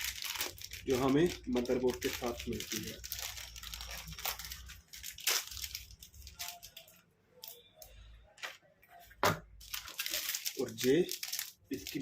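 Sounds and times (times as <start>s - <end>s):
packaging crinkling and rustling: 0.0s - 7.6s, 9.6s - 12.0s.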